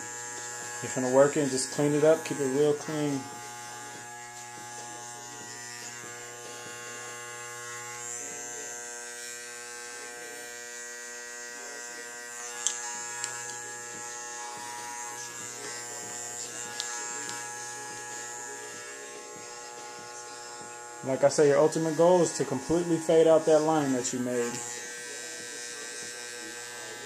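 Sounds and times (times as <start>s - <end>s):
hair clippers buzzing: 0.0s - 27.0s.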